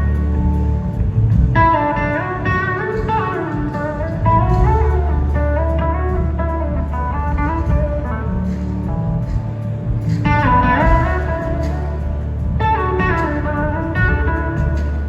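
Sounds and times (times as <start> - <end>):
bass and band accompaniment: 0.0 - 15.0
electric guitar lead melody: 0.0 - 15.0.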